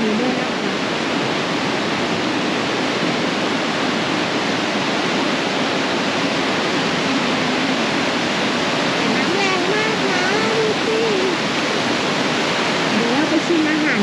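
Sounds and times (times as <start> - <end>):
river rushing in flood: 0.0 - 14.0.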